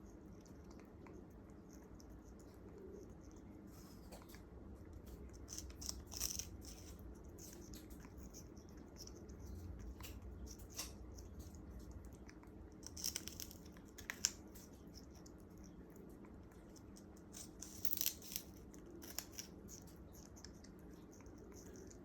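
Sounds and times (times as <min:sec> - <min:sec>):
parrot crunching sugarcane: 0:00.3 - 0:22.0.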